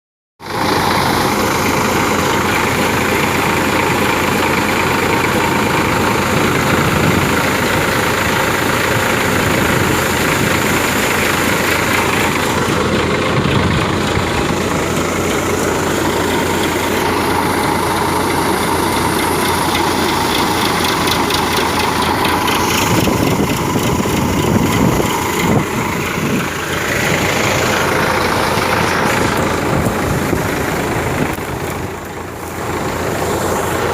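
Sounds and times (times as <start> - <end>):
tractor-driven thresher running: 0.4 - 33.9.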